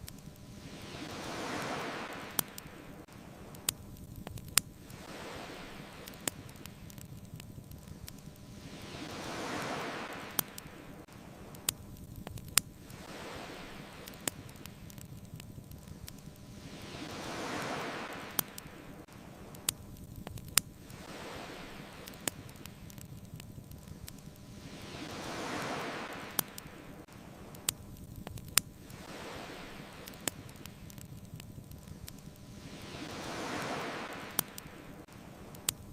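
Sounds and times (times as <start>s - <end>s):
bonfire crackling and popping: 0.0s - 35.9s
ocean waves washing in: 0.0s - 35.9s.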